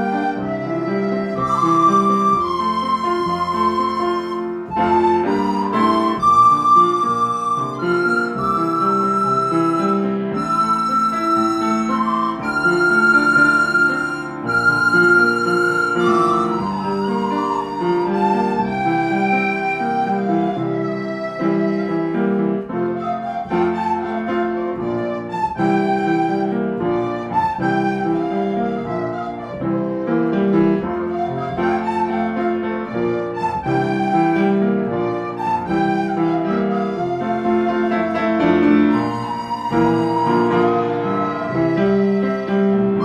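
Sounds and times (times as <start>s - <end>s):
instrumental background music: 0.0s - 43.0s.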